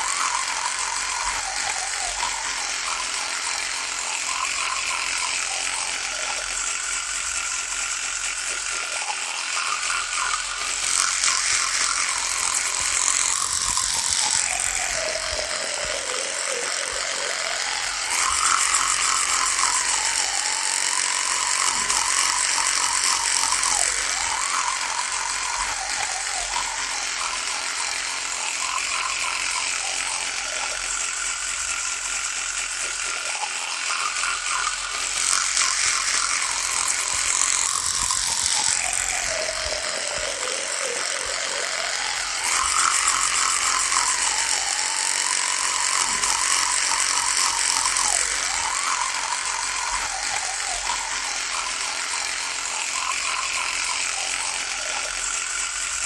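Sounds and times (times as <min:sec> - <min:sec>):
electric toothbrush buzzing: 0:00.0 - 0:56.0.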